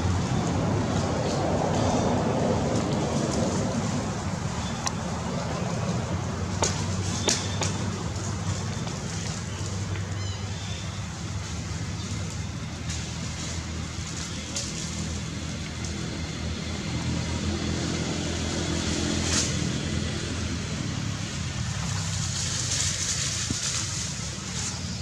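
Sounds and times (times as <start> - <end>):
low engine hum: 0.0 - 25.0.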